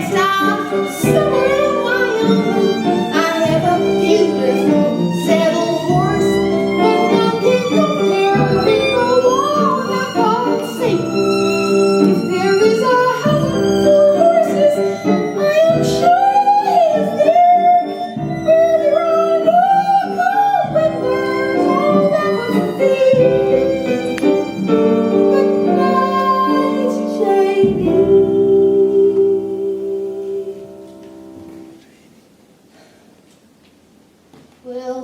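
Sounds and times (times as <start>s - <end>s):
sustained string chords: 0.0s - 31.4s.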